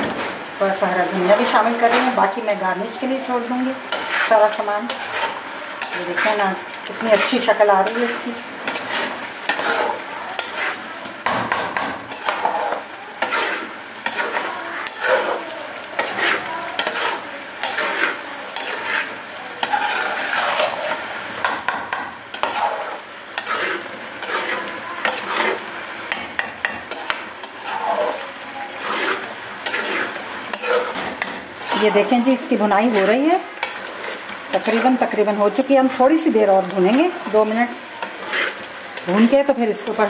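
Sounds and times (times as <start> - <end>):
meat sizzling in a pan: 0.0 - 40.0
metal spoon scraping a pan: 1.3 - 40.0.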